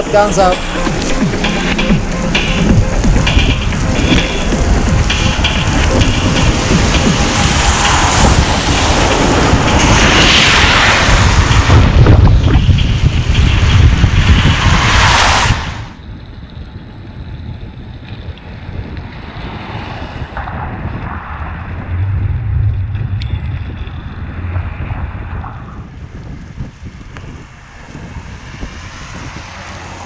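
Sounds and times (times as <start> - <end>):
low rumble of riding: 0.0 - 14.8, 15.9 - 30.0
wind buffeting microphone: 0.0 - 30.0.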